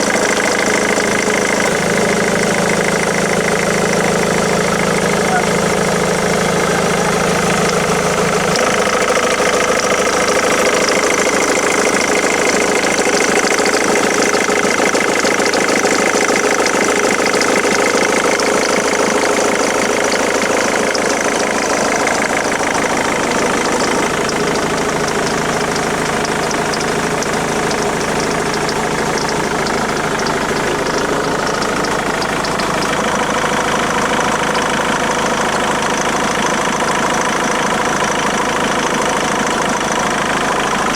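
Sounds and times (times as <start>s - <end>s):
diesel engine idling with rattle: 0.0s - 40.9s.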